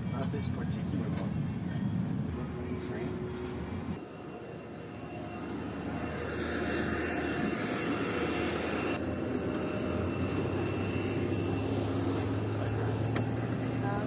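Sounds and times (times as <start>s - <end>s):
turboprop engine whine and drone: 0.0s - 14.0s.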